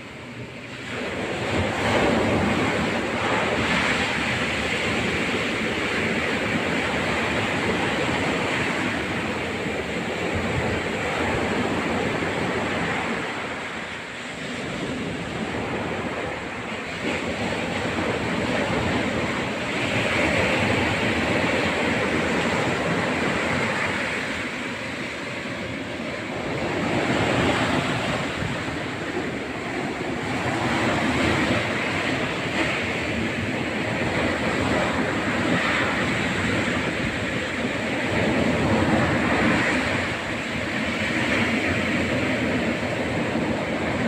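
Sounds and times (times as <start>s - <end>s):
sea waves washing onto shore: 0.0s - 44.0s
wind buffeting microphone: 0.0s - 44.0s.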